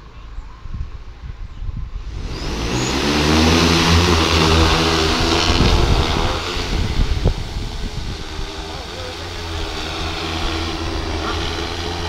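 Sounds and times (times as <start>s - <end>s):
drone propellers spinning: 1.8s - 12.0s.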